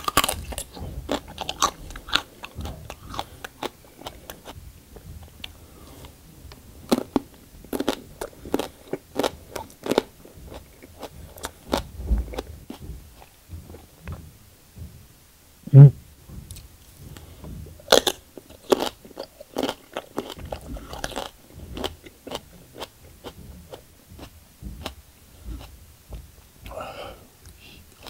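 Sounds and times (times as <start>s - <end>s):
person chewing crunchy leaf: 0.0s - 13.9s, 17.1s - 25.8s.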